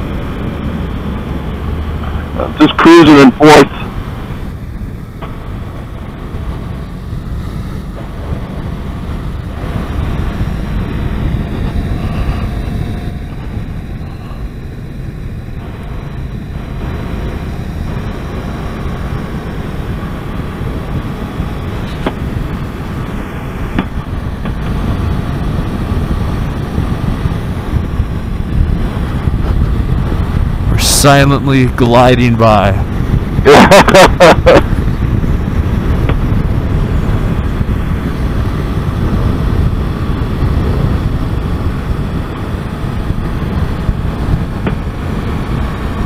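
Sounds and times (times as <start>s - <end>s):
motorcycle engine: 0.0s - 2.8s, 3.7s - 31.2s, 32.8s - 46.0s
road noise: 0.0s - 46.0s
wind rushing over microphone: 0.0s - 46.0s.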